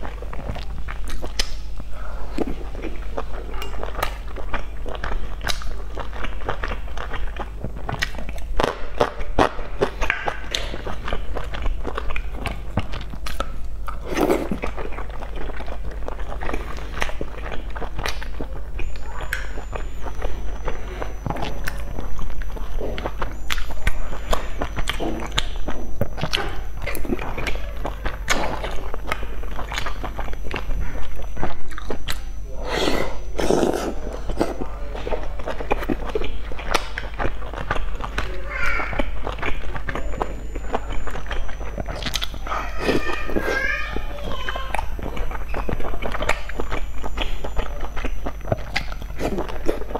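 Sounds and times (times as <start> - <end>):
wet chewing and smacking: 0.0 - 49.9.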